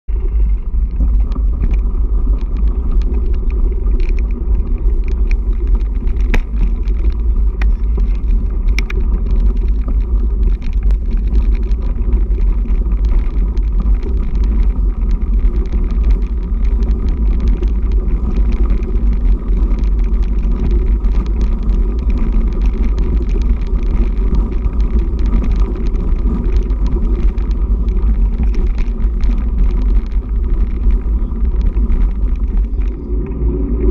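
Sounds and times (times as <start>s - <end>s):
bike rolling over gravel: 0.1s - 33.9s
small clicks and rattles: 0.1s - 33.9s.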